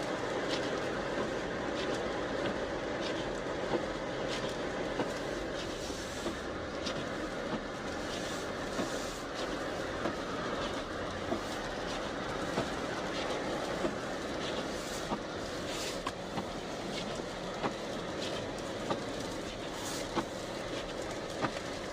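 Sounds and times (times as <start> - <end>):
tyre rumble on snowy road: 0.0 - 21.9.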